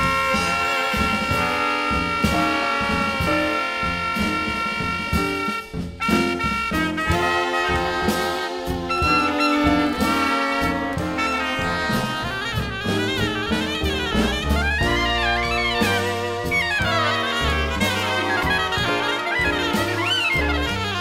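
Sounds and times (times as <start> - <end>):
bass line: 0.0 - 21.0
jazzy brass ensemble: 0.0 - 21.0.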